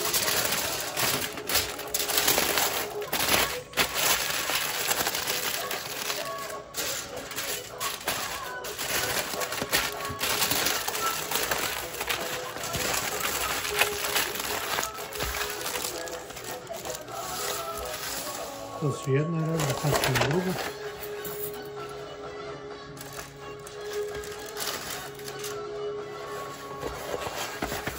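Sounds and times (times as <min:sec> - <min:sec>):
aluminium foil crinkling: 0:00.0 - 0:21.6, 0:22.9 - 0:27.9.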